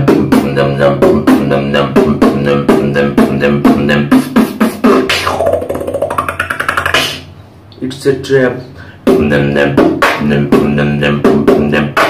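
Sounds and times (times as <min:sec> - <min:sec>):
person beatboxing: 0:00.0 - 0:07.3, 0:09.0 - 0:12.0.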